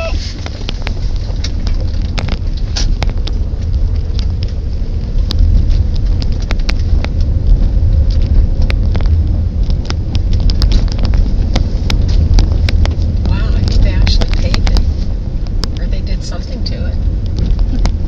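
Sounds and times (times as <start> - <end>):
car tyres and engine rumble: 0.0 - 18.0
sharp clicks and knocks: 0.4 - 16.1.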